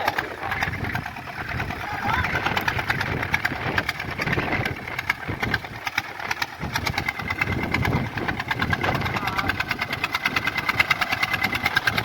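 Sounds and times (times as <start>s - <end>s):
tractor diesel engine knocking: 0.0s - 12.0s.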